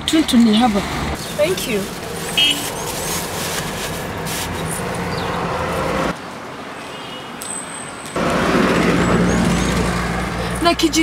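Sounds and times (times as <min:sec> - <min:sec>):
outdoor ambience: 0:00.0 - 0:11.0.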